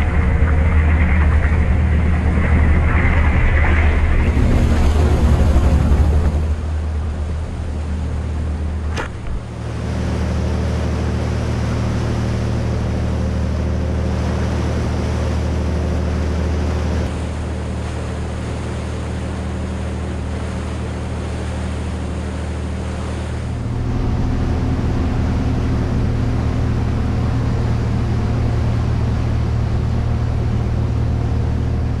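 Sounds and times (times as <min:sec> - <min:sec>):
diesel engine drone: 0:00.0 - 0:32.0
water rushing along hull: 0:00.0 - 0:32.0.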